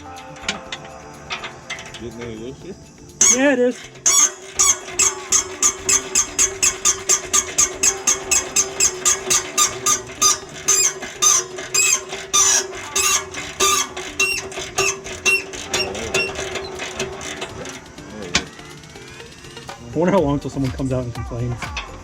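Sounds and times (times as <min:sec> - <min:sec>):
wrench squeaking click: 0:00.0 - 0:19.8
steady hum: 0:00.0 - 0:22.0.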